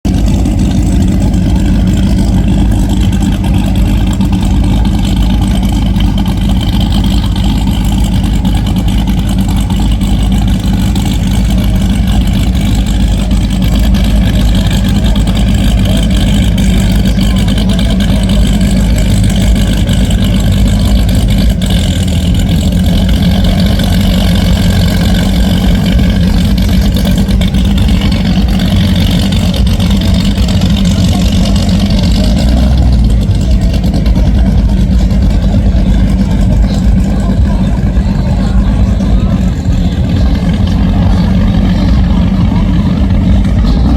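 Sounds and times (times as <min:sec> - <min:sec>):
power boat engine running: 0:00.0 - 0:43.9.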